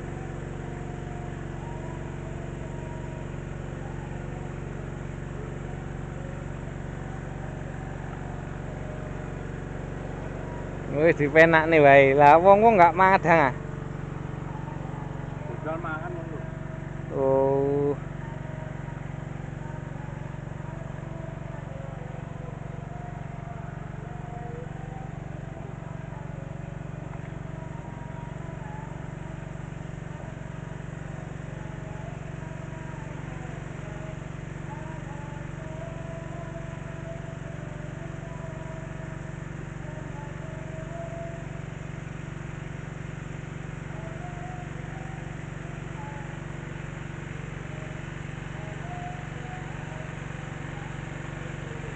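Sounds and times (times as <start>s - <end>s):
water pump engine humming: 0.0s - 51.9s.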